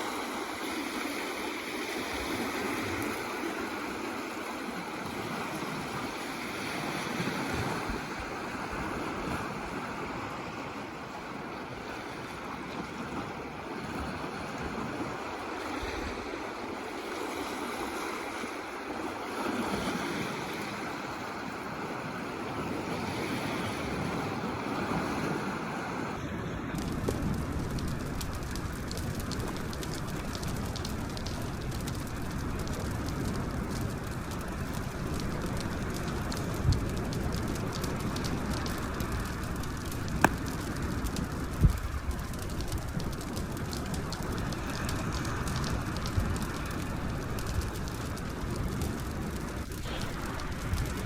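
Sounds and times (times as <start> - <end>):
waves washing against shore: 0.0 - 51.0
wind: 0.0 - 51.0.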